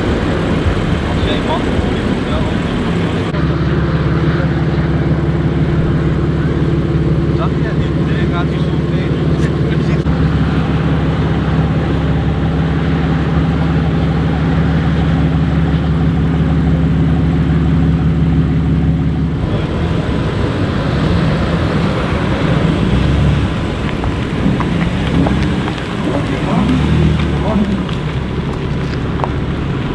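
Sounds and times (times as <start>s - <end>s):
car engine running steadily: 0.0s - 29.9s
road noise: 0.0s - 29.9s.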